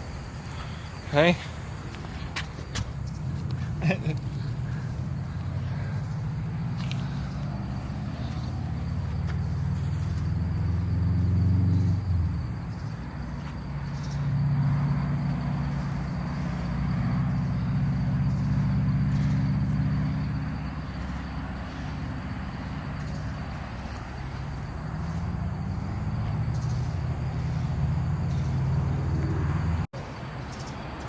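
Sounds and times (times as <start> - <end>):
motor vehicles passing: 0.0 - 31.0.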